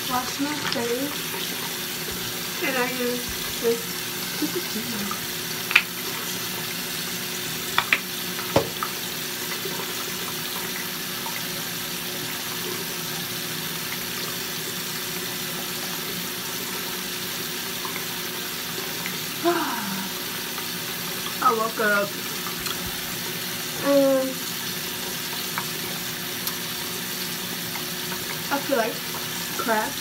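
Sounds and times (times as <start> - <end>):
faucet running into basin: 0.0 - 30.0.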